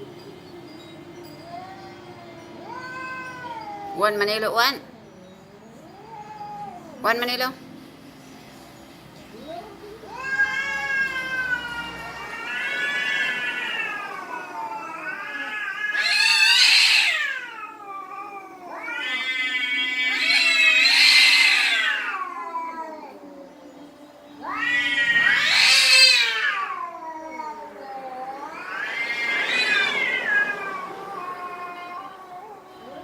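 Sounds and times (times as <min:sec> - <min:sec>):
cats yowling: 0:01.2 - 0:07.2, 0:09.4 - 0:33.0.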